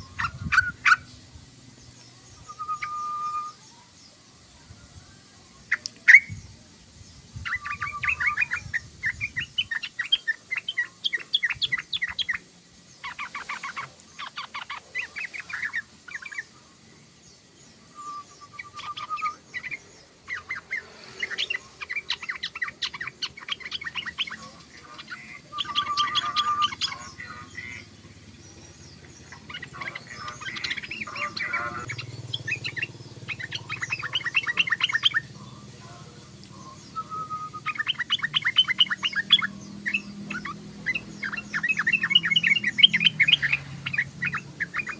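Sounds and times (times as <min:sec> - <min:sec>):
bird chattering song: 0:00.0 - 0:04.7, 0:05.5 - 0:44.9.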